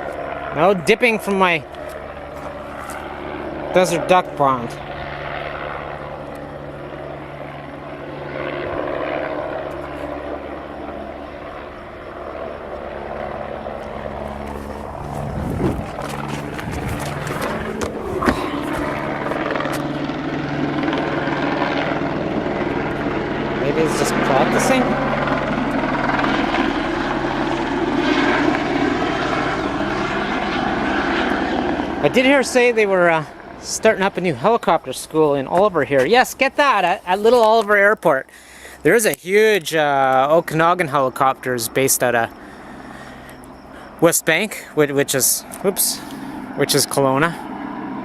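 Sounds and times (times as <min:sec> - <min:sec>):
helicopter rotor and turbine: 0:00.0 - 0:48.0.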